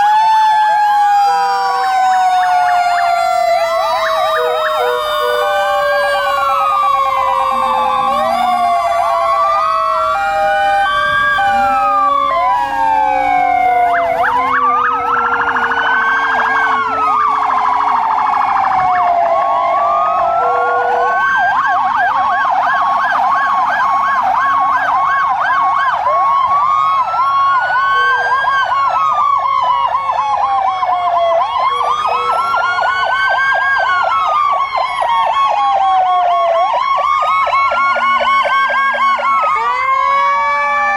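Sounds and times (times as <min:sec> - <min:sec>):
fire truck sirens wailing: 0:00.0 - 0:40.9
slowly falling siren tone: 0:00.0 - 0:40.9.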